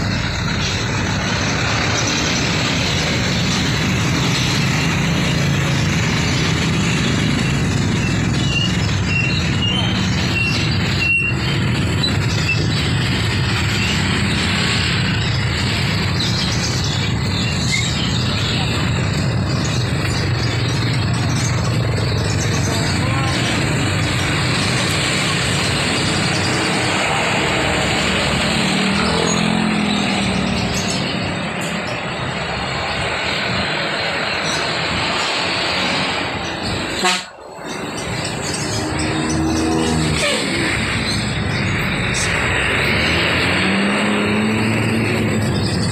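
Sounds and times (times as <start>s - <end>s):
motorcycle traffic rumble: 0.0s - 45.9s.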